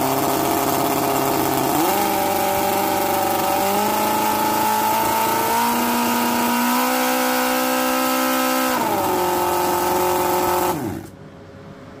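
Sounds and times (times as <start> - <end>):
model engine running at high revs: 0.0 - 11.1.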